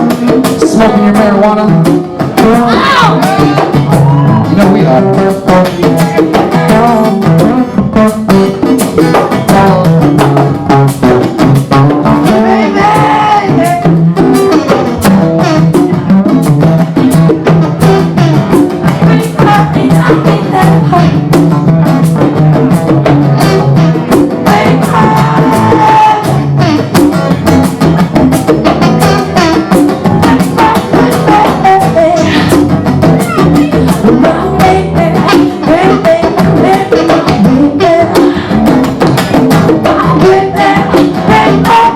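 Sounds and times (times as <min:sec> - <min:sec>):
hand drum percussion: 0:00.0 - 0:41.9.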